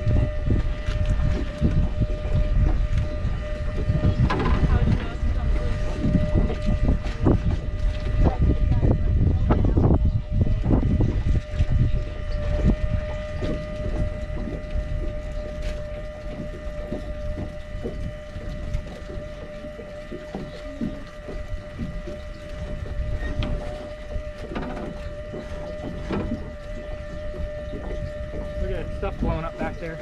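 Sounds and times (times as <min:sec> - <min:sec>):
low rumble: 0:00.0 - 0:30.0
small motor whining: 0:00.0 - 0:30.0.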